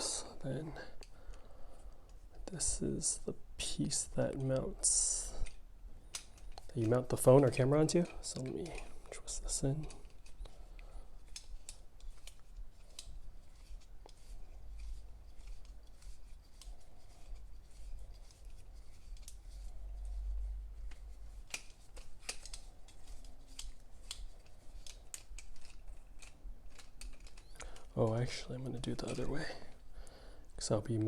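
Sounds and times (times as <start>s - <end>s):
handling rubs: 3.8s - 29.8s.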